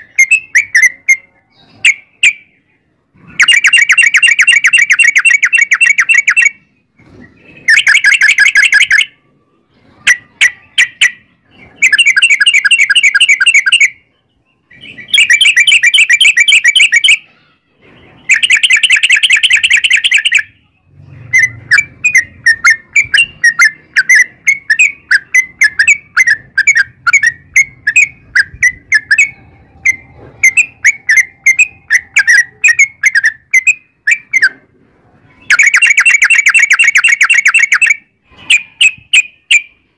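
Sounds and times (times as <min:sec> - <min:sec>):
bulbul song trills and chirps: 0:00.0 - 0:39.9.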